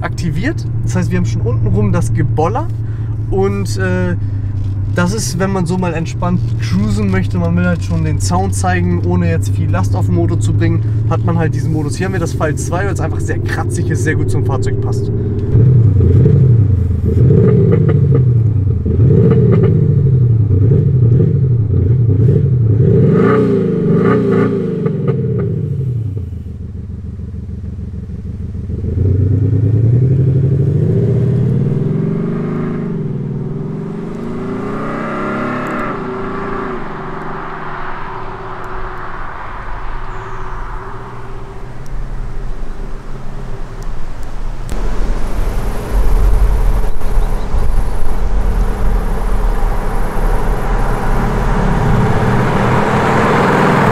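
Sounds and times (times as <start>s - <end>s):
car engine revving: 0.0s - 53.9s
road and tyre noise: 0.0s - 53.9s.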